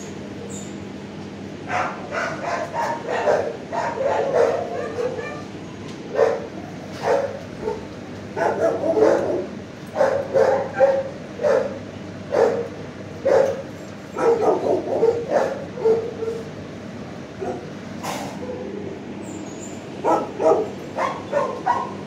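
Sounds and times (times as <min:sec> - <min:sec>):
dogs barking: 0:01.6 - 0:16.6, 0:17.3 - 0:18.8, 0:19.8 - 0:22.0.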